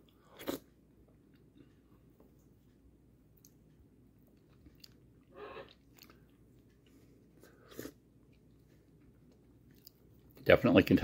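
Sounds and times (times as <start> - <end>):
person faintly chewing: 0.0 - 10.4.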